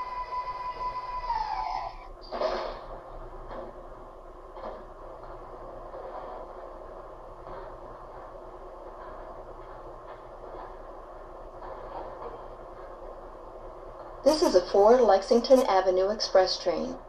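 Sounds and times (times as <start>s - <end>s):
low electrical hum: 0.0s - 17.0s
subway car running noise: 0.0s - 17.0s.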